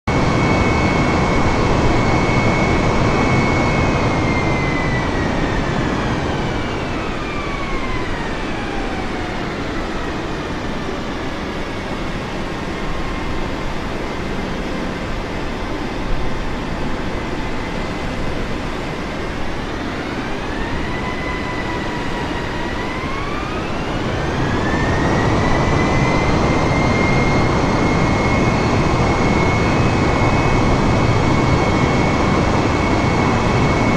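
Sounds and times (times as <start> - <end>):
jet engines rushing and whining: 0.1 - 33.9.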